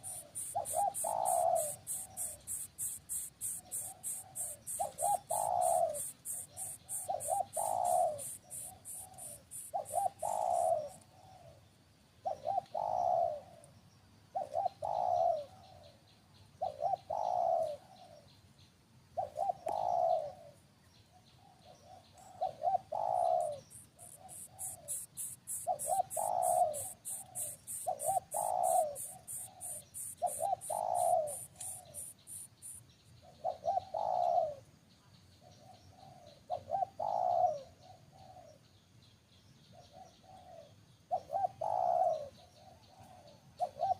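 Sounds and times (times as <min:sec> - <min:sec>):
bird cooing: 0:00.0 - 0:11.6, 0:12.2 - 0:13.7, 0:14.3 - 0:18.3, 0:19.2 - 0:20.6, 0:21.2 - 0:34.7, 0:35.4 - 0:38.7, 0:39.8 - 0:43.9.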